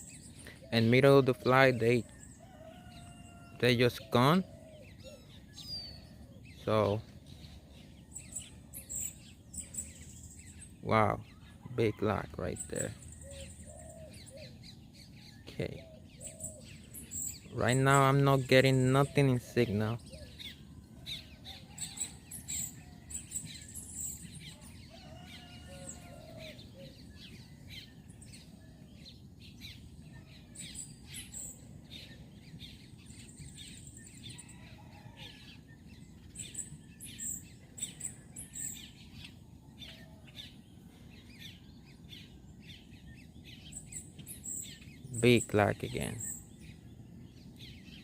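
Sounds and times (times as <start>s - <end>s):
birds chirping: 0.0s - 48.0s
faint outdoor background noise: 0.0s - 48.0s
lower bird calls: 0.0s - 48.0s.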